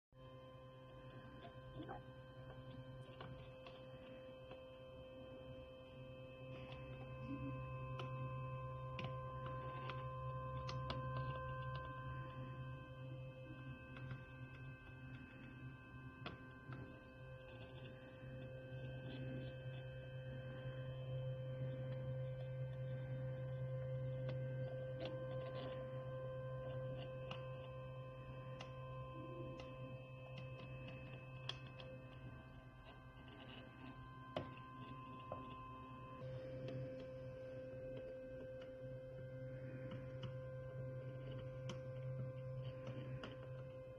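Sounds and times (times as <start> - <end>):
faint higher tone: 0.2 - 43.9
low electrical hum: 0.2 - 43.9.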